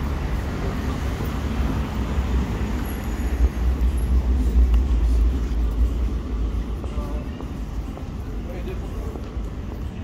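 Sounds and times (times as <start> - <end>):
passing vehicles rumbling: 0.0 - 10.0.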